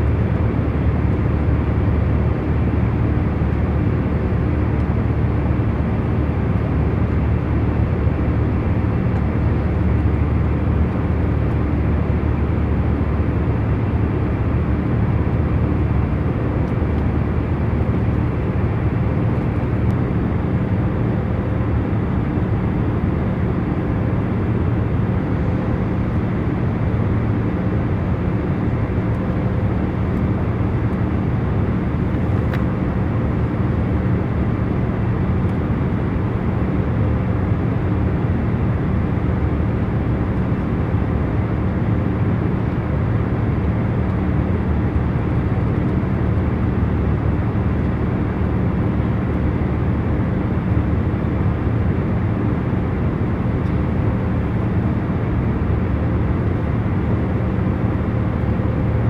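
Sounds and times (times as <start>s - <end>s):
airliner cabin engine rush: 0.0s - 59.0s
faint constant hum: 0.0s - 59.0s.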